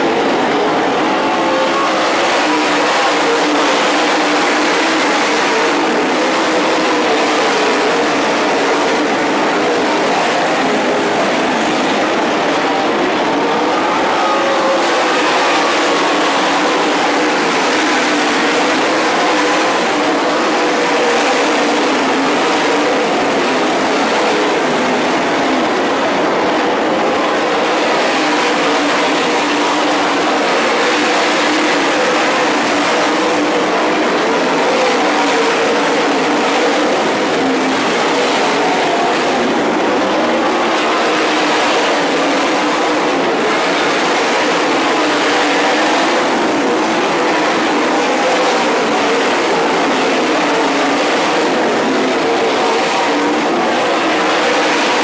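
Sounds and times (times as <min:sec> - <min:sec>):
racing car engines roaring: 0:00.0 - 0:55.0.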